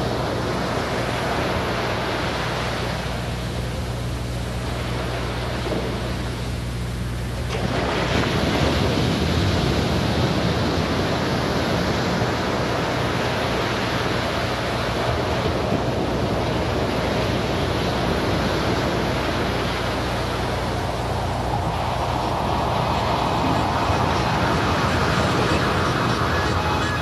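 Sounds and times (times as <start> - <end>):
low hum: 0.0 - 27.0
steady rushing noise: 0.0 - 27.0.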